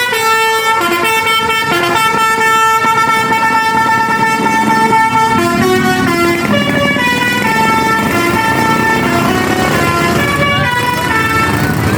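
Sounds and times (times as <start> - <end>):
musical horn playing a tune: 0.0 - 11.9.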